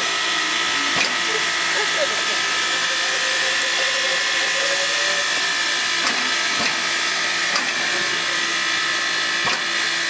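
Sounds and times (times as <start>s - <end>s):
steam locomotive hissing steam: 0.0s - 10.0s.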